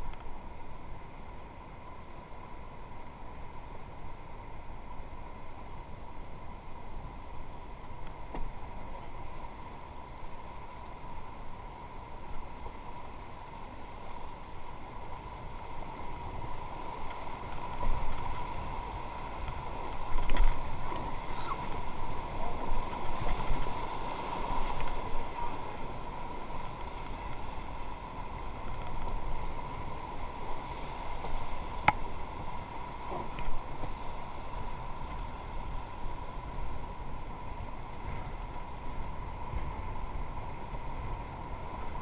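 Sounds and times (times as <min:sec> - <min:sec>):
rushing whitewater: 0:00.0 - 0:42.0
wind on microphone: 0:00.0 - 0:42.0.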